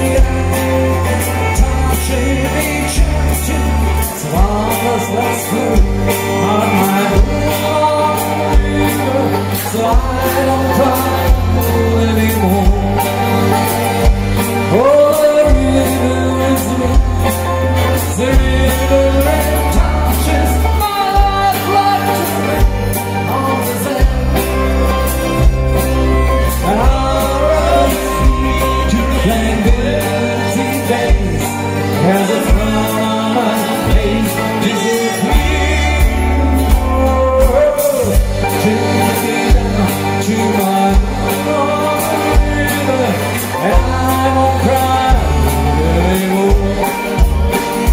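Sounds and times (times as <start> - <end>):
band playing: 0.0 - 47.9
person singing: 0.0 - 47.9.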